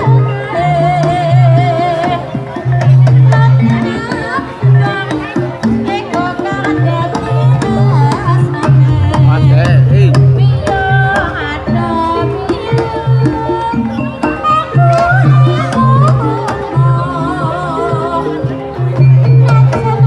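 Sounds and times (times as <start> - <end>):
hand drums beating: 0.0 - 20.0
wavering sliding melody: 0.0 - 20.0.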